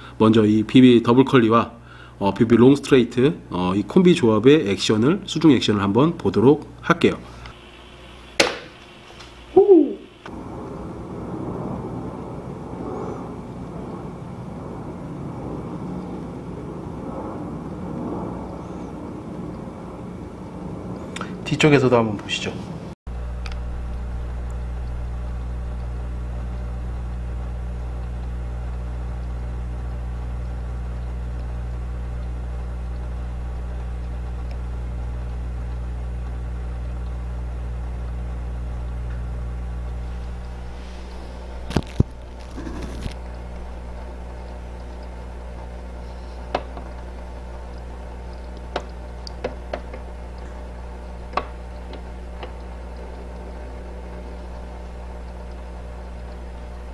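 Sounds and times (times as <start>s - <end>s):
aquarium pump humming: 0.0s - 22.0s, 23.1s - 56.9s.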